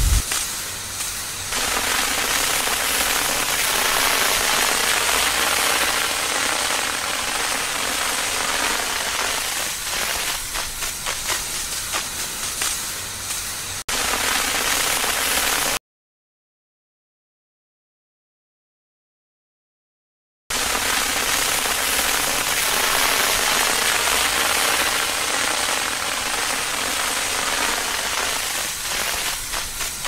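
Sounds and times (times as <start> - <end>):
burnt paper crackling: 0.0 - 15.8, 20.6 - 30.0
water spraying hiss: 0.0 - 15.8, 20.5 - 30.0.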